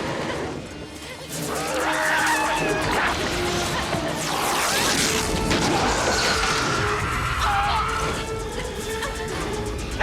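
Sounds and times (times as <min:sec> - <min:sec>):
film score music: 0:00.0 - 0:10.0.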